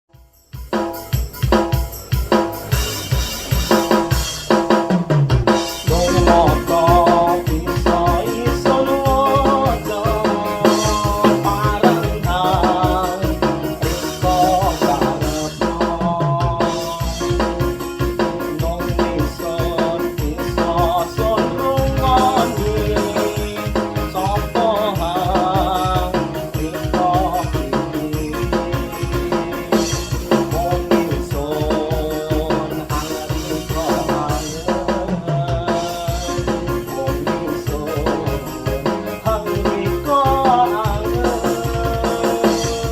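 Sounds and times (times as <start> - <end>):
drum and bass rhythm: 0.0 - 42.9
keyboard lead melody: 0.1 - 42.9.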